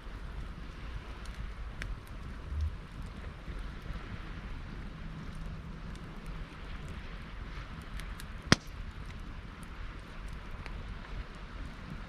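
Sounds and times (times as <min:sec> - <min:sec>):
campfire burning and crackling: 0:00.0 - 0:12.0
wind rumble on microphone: 0:00.0 - 0:12.0.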